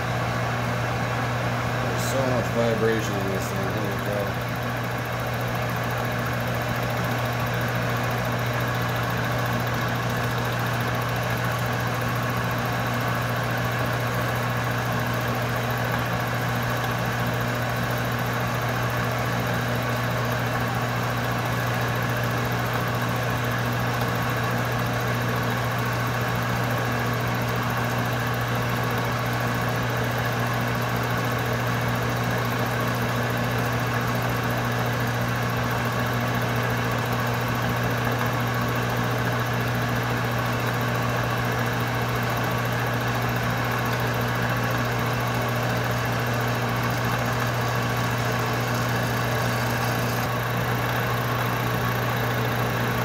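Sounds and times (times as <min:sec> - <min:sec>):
lathe machine hum: 0:00.0 - 0:53.0.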